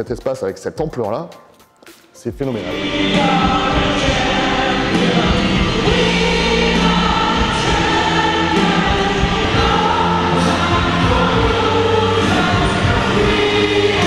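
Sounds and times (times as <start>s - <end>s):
choir singing held chords: 2.5s - 14.0s
steady low bass: 2.6s - 14.0s.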